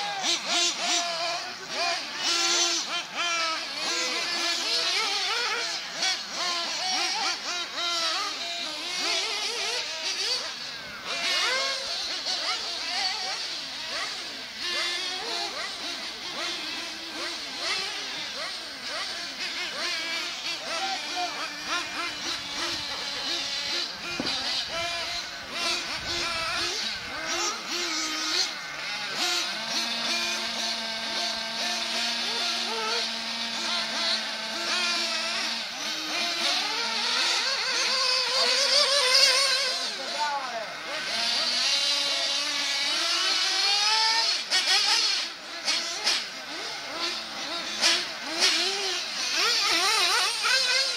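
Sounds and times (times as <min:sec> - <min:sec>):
rc buggy engines whining: 0:00.0 - 0:50.9.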